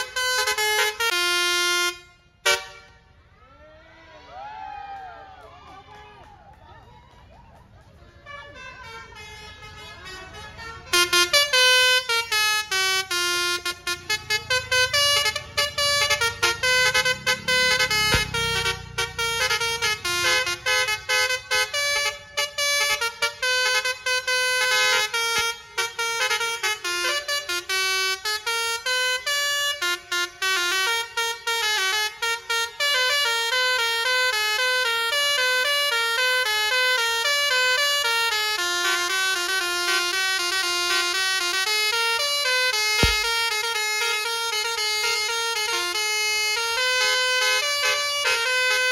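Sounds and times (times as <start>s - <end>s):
bus musical horn tune: 0.0s - 3.1s, 8.2s - 48.9s.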